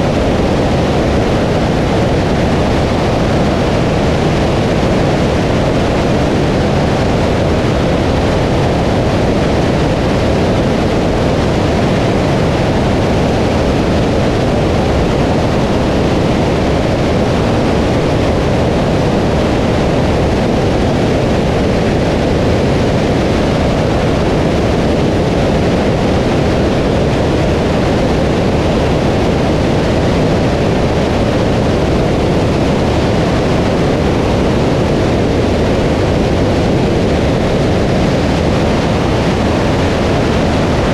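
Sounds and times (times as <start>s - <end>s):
aircraft engine and propeller: 0.0s - 40.9s
loud wind noise: 0.0s - 40.9s.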